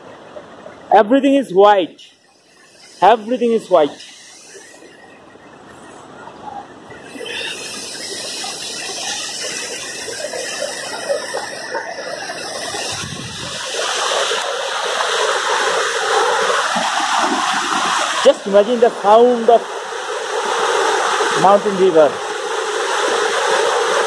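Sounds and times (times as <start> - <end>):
river rushing: 0.8 - 24.0.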